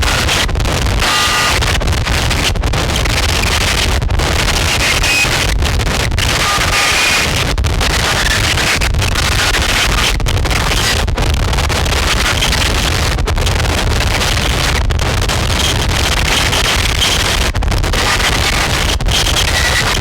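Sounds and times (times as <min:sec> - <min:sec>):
harsh distorted noise: 0:00.0 - 0:20.0.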